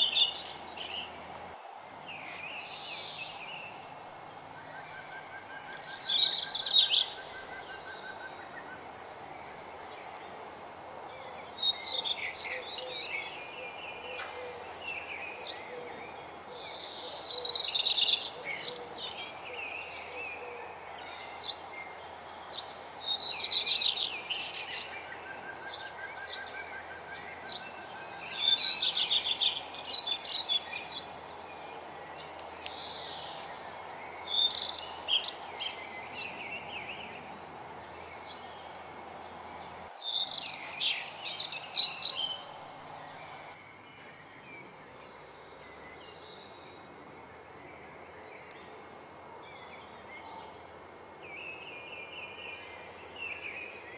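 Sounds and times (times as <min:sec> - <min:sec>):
background hiss: 0:00.0 - 0:53.9
songbird singing: 0:00.0 - 0:53.9.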